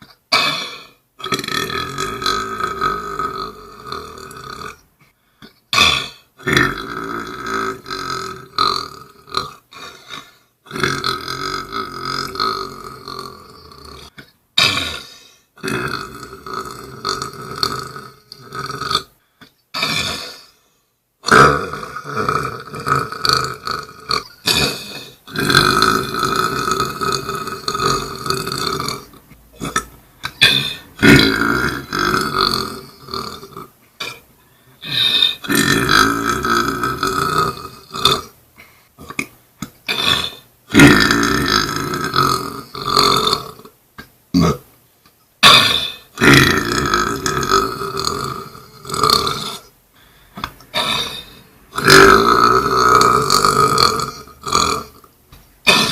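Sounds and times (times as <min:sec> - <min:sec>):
man belching loudly: 0:00.0 - 0:04.8, 0:05.7 - 0:19.1, 0:21.2 - 0:34.2, 0:34.8 - 0:38.4, 0:39.0 - 0:44.7, 0:45.4 - 0:49.7, 0:50.4 - 0:55.9.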